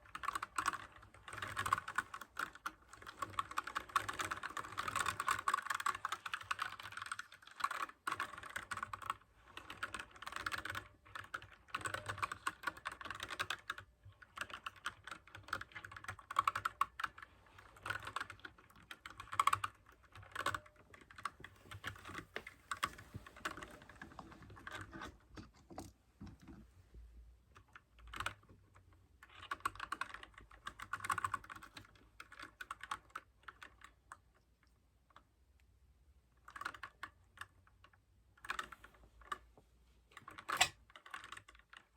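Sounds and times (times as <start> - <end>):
mechanical keyboard typing: 0.0 - 26.6, 27.5 - 34.3, 36.4 - 39.4, 40.2 - 41.9.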